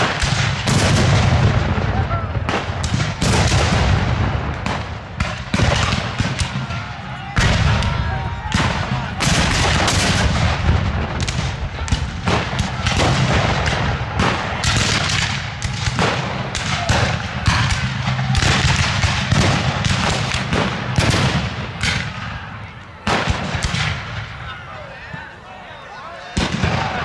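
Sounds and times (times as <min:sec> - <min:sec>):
rifle-muskets firing: 0:00.0 - 0:22.4, 0:23.0 - 0:24.3, 0:26.4 - 0:27.0.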